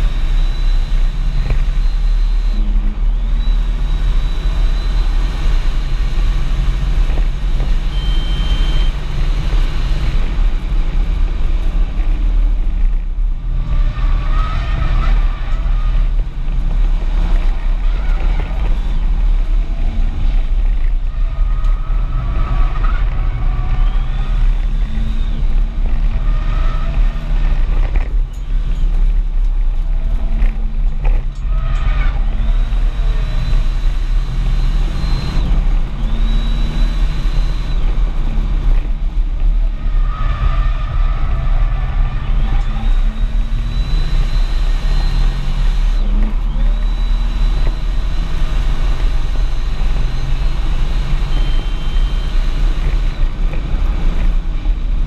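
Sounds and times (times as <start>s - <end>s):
car engine revving: 0.0s - 55.0s
tyre road noise: 0.0s - 55.0s.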